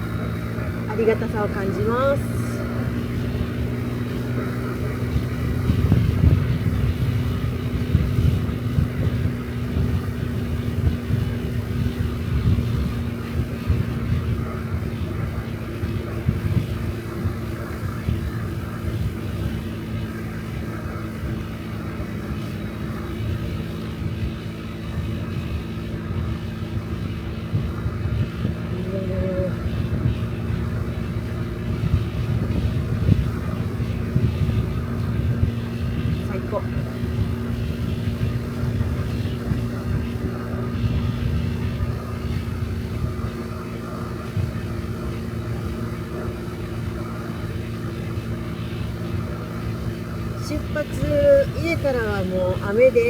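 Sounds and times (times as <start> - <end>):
scooter engine running: 0.0 - 53.0
wind rumbling on microphone: 0.0 - 53.0.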